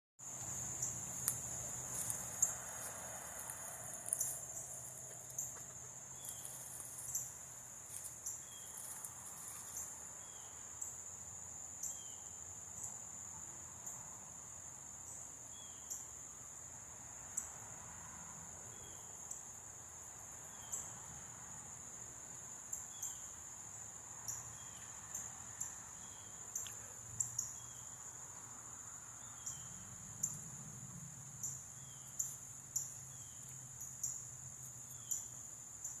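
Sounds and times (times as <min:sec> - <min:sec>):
insects trilling: 0:00.2 - 0:36.0.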